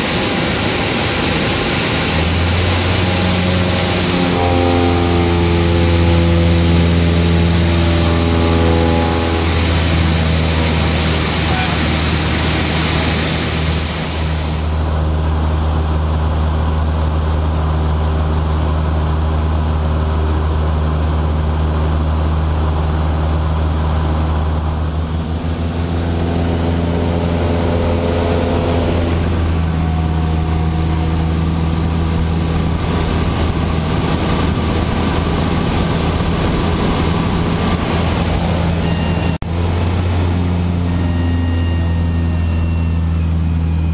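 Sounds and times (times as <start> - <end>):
propeller plane engine droning: 0.0 - 43.9.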